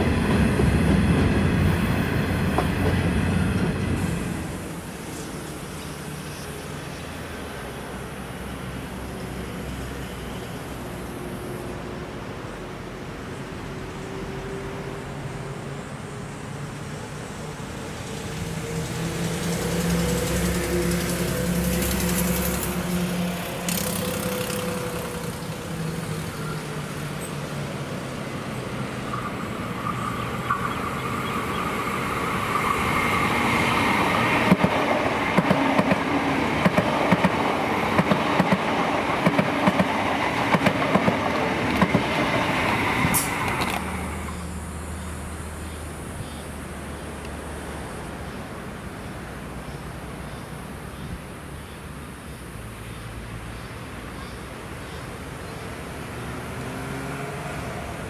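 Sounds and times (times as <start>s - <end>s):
diesel railcar engine drone: 0.0s - 58.0s
rushing rail noise: 0.0s - 58.0s.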